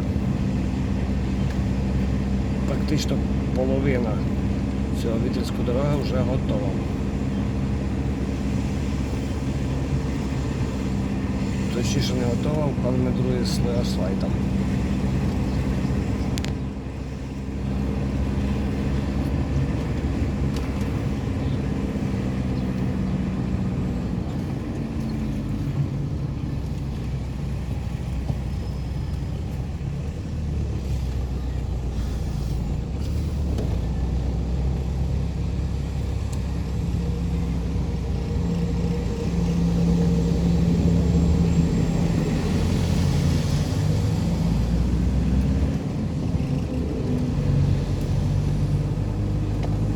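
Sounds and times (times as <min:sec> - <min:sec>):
heavy machinery engines humming: 0:00.0 - 0:49.9.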